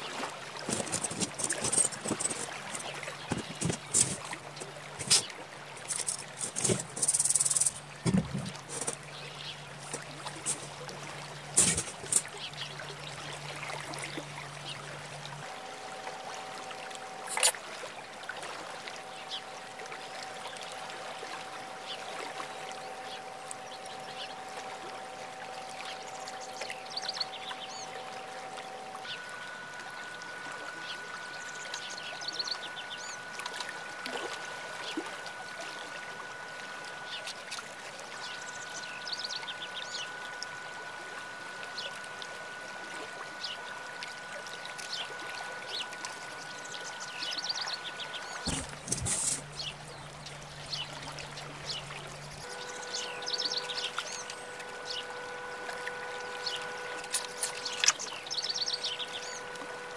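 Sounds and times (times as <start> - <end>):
flowing water: 0.0 - 59.9
steady low hum: 0.0 - 59.9.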